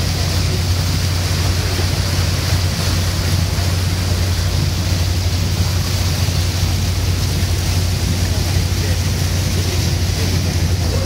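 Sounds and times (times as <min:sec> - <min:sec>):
boat engine drone: 0:00.0 - 0:11.0
churning boat wake: 0:00.0 - 0:11.0.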